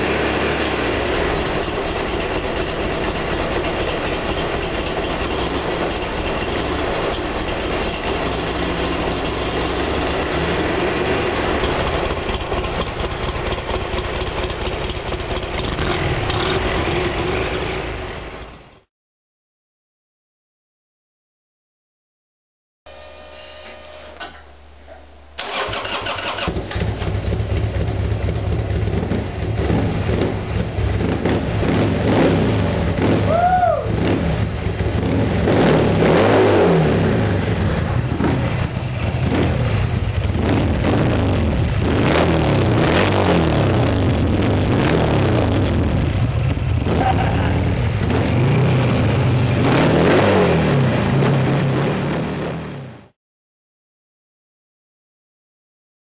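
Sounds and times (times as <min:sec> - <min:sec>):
motorcycle engine revving: 0:00.0 - 0:18.9, 0:25.4 - 0:53.2.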